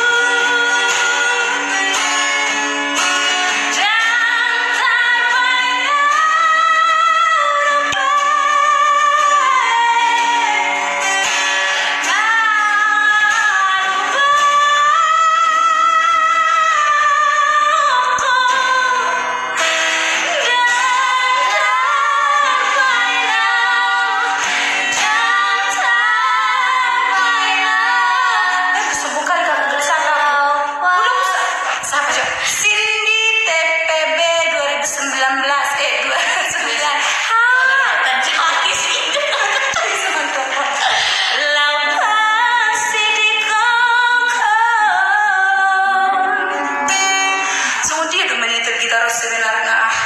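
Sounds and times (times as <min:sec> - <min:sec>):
woman singing: 0:00.0 - 0:02.3, 0:03.4 - 0:19.4, 0:20.2 - 0:50.0
acoustic guitar: 0:00.0 - 0:50.0.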